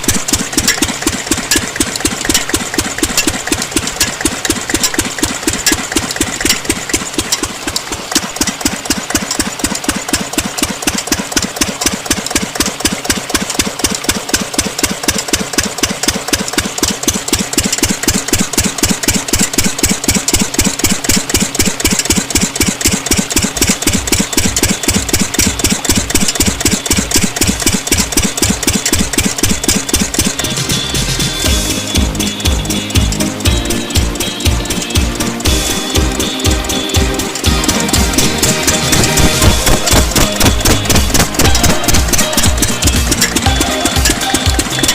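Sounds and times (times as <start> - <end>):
diesel water pump engine idling: 0.0 - 44.9.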